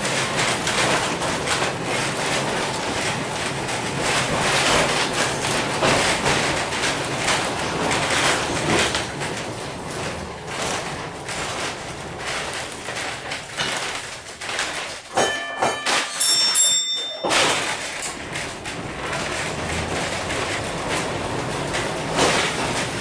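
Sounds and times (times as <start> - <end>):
streetcar running on rails: 0.0 - 23.0.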